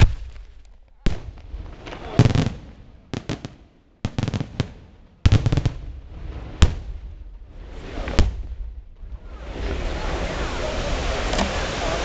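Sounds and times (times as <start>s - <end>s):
firework crackle: 0.0s - 12.0s.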